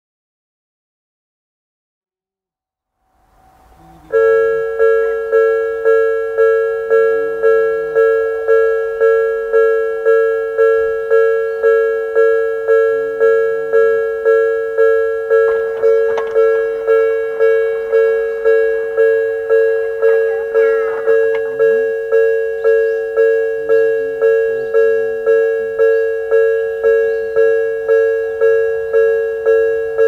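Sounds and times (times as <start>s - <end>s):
level crossing warning bell: 3.4s - 30.0s.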